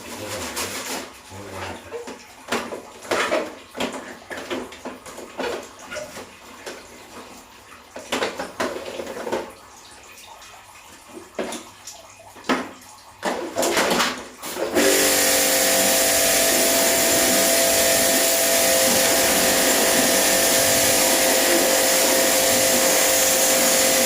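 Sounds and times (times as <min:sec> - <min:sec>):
water splashing: 0:00.4 - 0:24.0.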